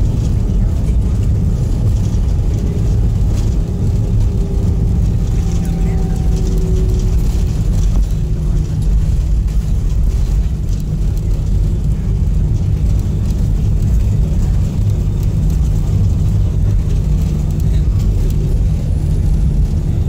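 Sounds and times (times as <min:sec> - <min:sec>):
airliner rumbling on runway: 0:00.0 - 0:20.0.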